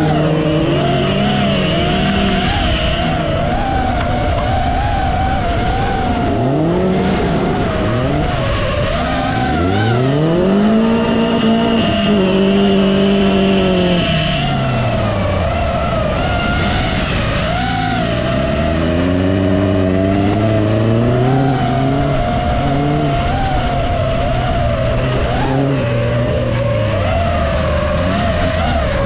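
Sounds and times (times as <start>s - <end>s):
race car engines revving: 0.0s - 29.0s
tyres skidding on loose track: 0.0s - 29.0s
wavering high whine: 0.0s - 29.0s.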